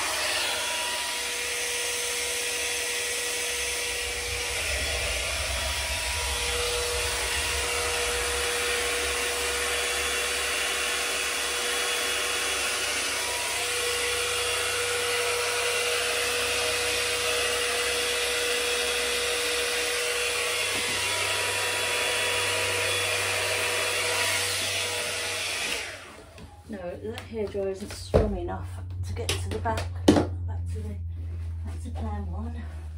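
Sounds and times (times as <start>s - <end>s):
hairdryer running: 0.0s - 28.0s.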